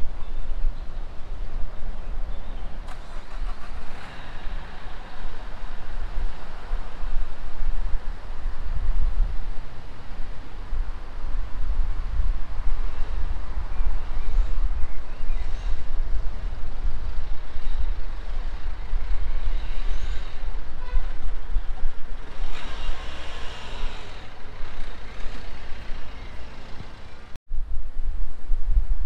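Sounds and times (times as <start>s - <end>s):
city ambience rumble: 0.0s - 27.8s.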